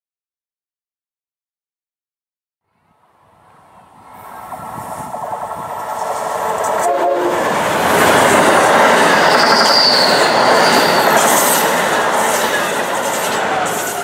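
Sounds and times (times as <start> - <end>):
train rushing past: 2.8 - 14.0.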